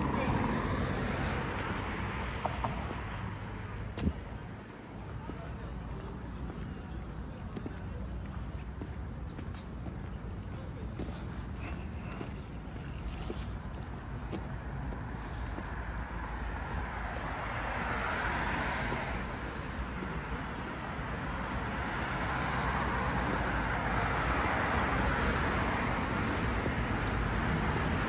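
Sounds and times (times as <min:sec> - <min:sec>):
cars passing: 0:00.0 - 0:28.0.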